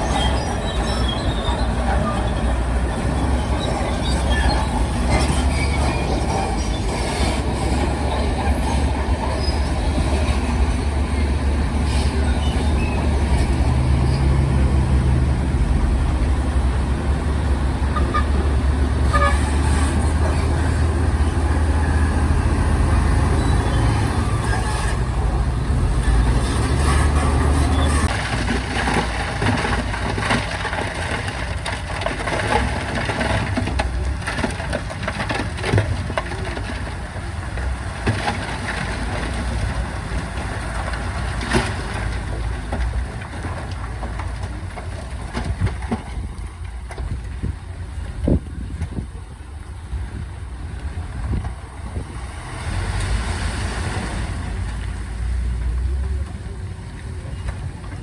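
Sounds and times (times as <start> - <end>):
heavy machinery diesel engines droning: 0.0 - 58.0.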